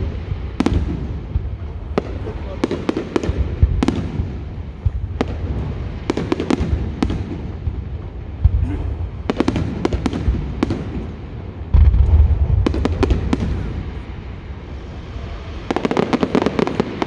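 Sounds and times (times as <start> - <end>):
firework low boom: 0.0 - 17.0
fireworks cracking: 0.0 - 17.0.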